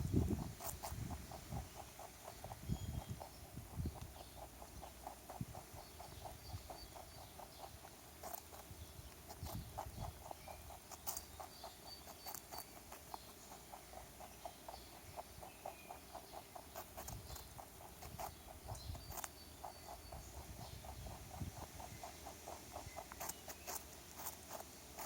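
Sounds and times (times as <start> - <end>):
rabbit crunching a carrot: 0.0 - 25.0.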